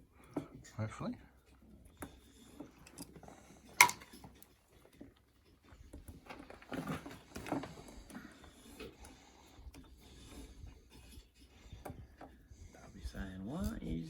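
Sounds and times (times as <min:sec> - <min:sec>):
light clicking and scraping: 0:00.0 - 0:14.0.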